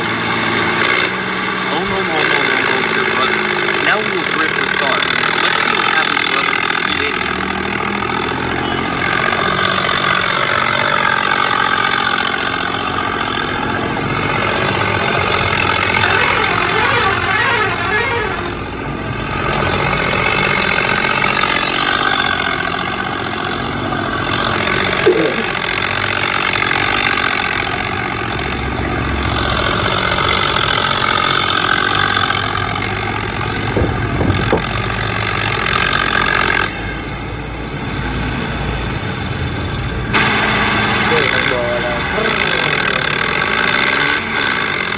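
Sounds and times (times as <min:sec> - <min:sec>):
vehicle engine running loudly: 0:00.0 - 0:44.9.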